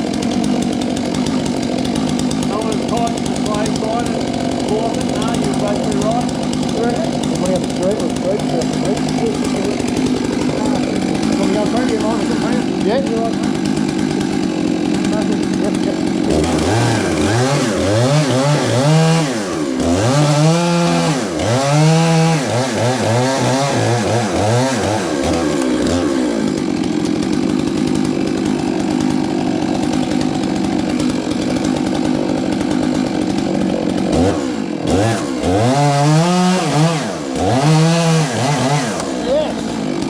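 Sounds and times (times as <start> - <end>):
chainsaw engine revving: 0.0 - 40.0.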